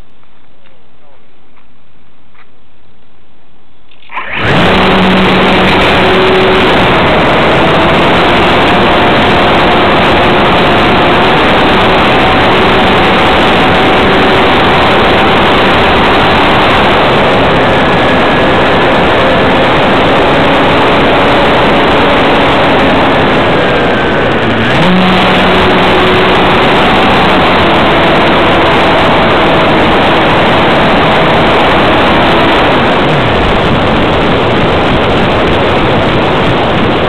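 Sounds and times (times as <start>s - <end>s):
model plane electric motor: 4.2s - 35.2s.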